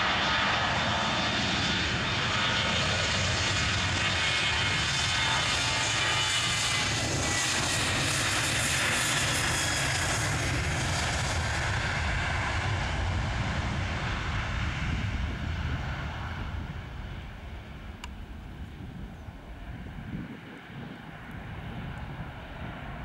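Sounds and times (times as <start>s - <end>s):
jet roar with high whine: 0.0s - 23.0s.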